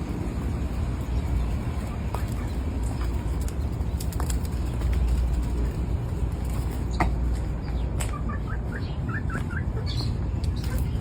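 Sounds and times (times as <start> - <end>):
chickens chirping softly: 0.0 - 11.0
steady low rumble: 0.0 - 11.0.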